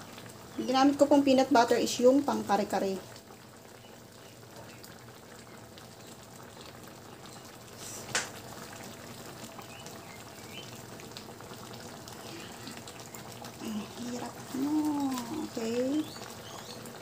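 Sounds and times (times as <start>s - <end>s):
stew bubbling: 0.0s - 17.0s.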